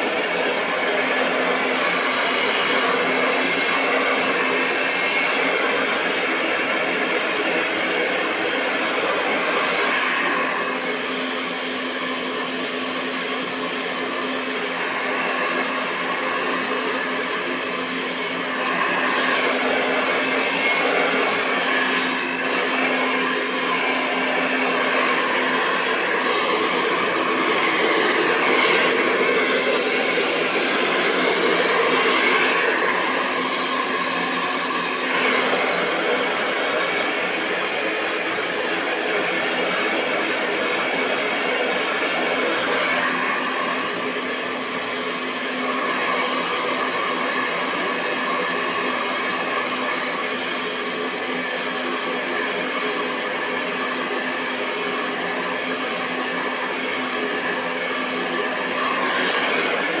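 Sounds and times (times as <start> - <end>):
hair dryer running: 0.0 - 60.0.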